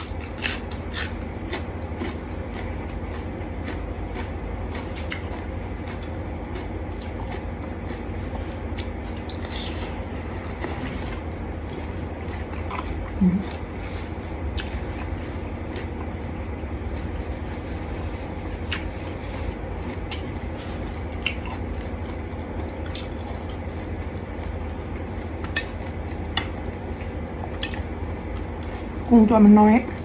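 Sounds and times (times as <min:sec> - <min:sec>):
person chewing: 0:00.0 - 0:29.1
steady low hum: 0:00.0 - 0:30.0.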